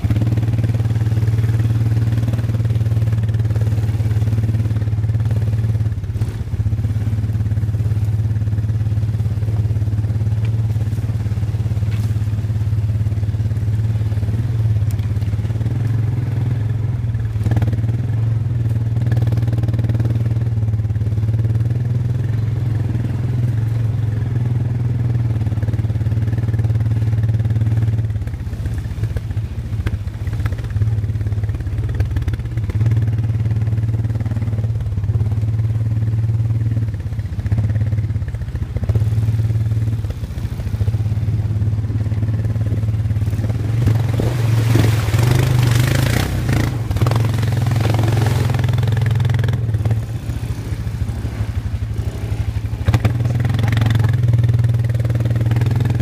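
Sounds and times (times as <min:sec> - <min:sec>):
atv engines running: 0:00.0 - 0:56.0.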